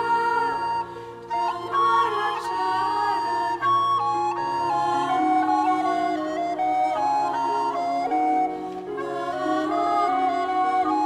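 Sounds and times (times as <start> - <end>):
slow melody with held notes: 0.0 - 11.0.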